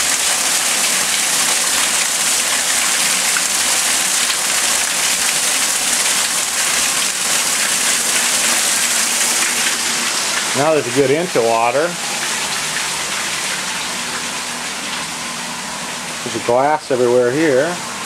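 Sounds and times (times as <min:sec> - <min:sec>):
water pouring and splashing: 0:00.0 - 0:18.0.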